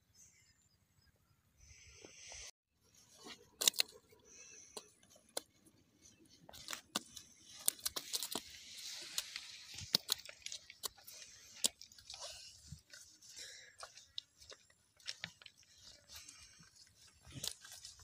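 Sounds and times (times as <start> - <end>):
dry grass rustling and crunching: 2.9 - 18.0.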